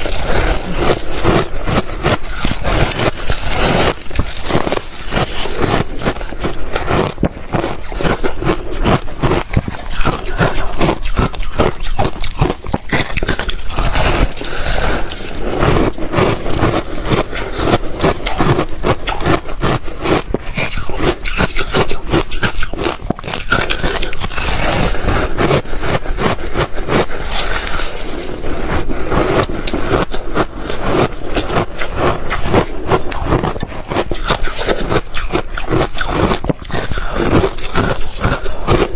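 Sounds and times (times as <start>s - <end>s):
ice being crunched and chewed: 0.0s - 38.9s.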